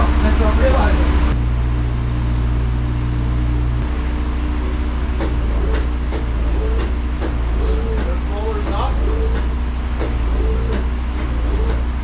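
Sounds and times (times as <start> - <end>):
sawmill engine idling: 0.0 - 12.0.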